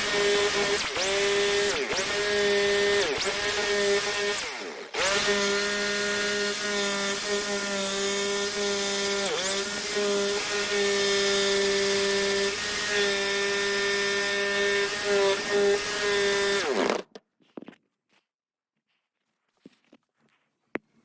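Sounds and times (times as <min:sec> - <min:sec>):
jigsaw cutting wood: 0:00.0 - 0:17.2.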